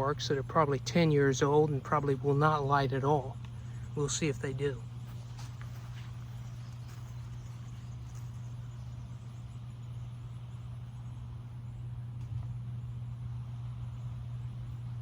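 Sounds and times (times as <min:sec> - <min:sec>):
faint outdoor background noise: 0:00.0 - 0:15.0
steady low hum: 0:00.0 - 0:15.0.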